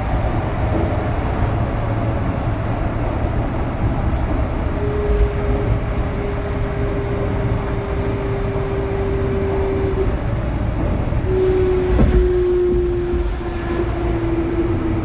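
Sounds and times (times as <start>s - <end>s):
train inverter whine: 0.0s - 15.0s
train running rumble: 0.0s - 15.0s.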